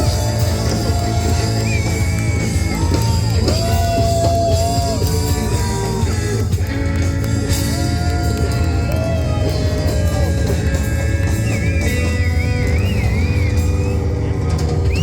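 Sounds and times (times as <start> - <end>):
bending electric guitar notes: 0.0 - 15.0
live rock band playing: 0.0 - 15.0.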